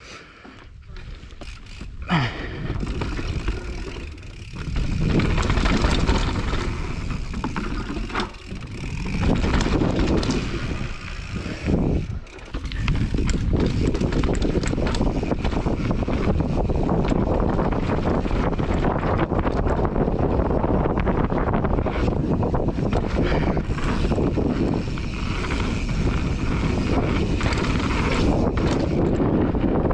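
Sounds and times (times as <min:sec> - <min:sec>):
bike tyres rolling on wooden planks: 0:00.4 - 0:29.9
bike rattling: 0:00.7 - 0:29.9
wind buffeting microphone: 0:00.8 - 0:29.9.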